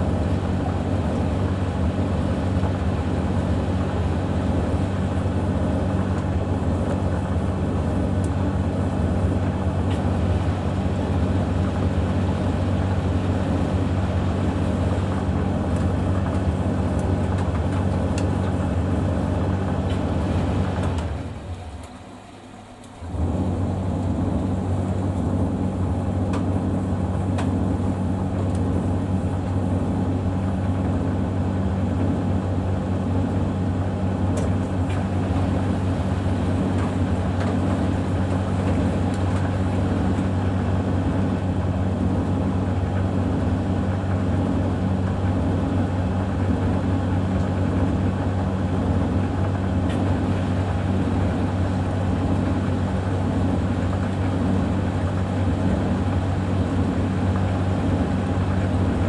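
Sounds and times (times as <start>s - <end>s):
machines motor hum: 0.0s - 59.0s.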